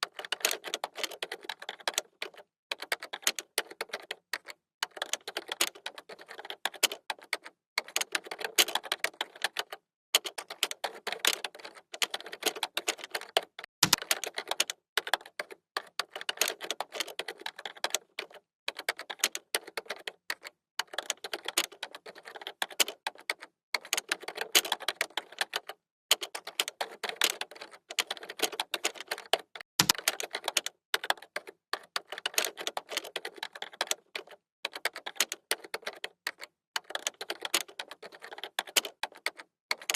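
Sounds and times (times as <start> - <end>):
typing on a keyboard: 0.0 - 39.9.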